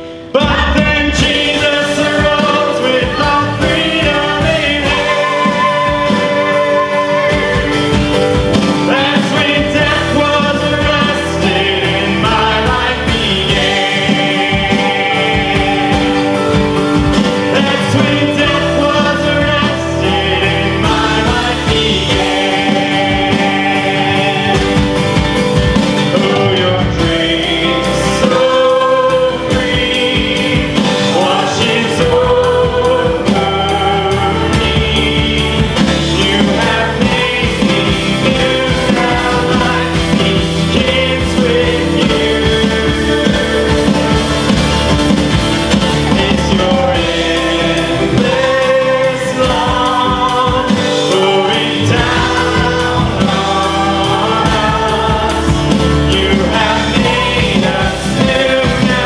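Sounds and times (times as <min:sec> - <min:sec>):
person singing: 0:00.0 - 0:59.0
worship band playing: 0:00.0 - 0:59.0.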